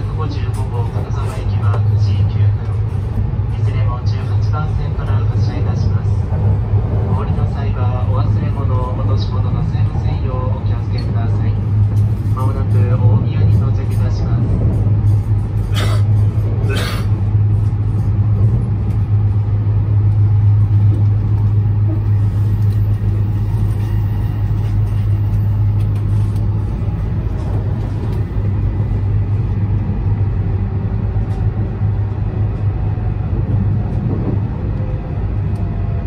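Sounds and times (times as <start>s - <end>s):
train cabin hum and rumble: 0.0s - 36.0s.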